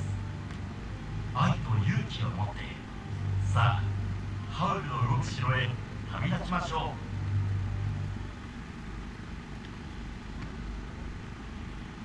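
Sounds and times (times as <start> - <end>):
public-address system hum: 0.0 - 10.6
low rumble and hiss: 0.0 - 12.0.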